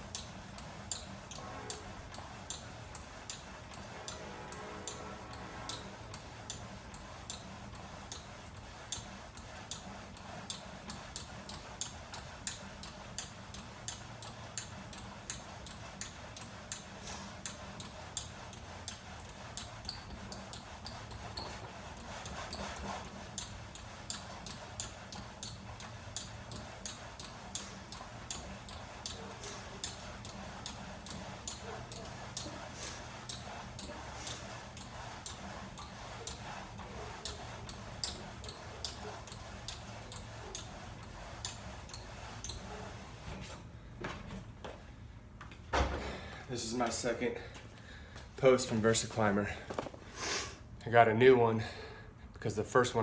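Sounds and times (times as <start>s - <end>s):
climbing machine squeaking: 0.0s - 43.3s.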